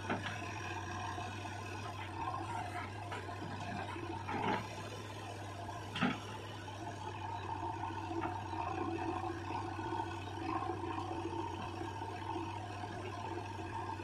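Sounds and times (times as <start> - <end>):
diesel engine under hydraulic load: 0.0 - 14.0.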